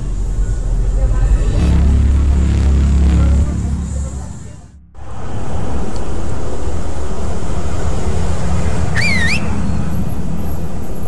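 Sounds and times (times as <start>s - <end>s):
deep rumble: 0.0s - 11.0s.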